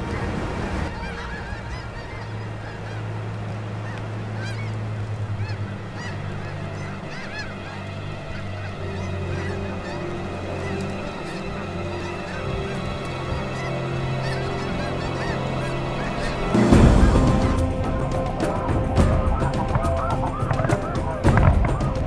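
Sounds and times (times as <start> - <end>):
geese honking: 0.0 - 22.0
low hum: 0.0 - 22.0.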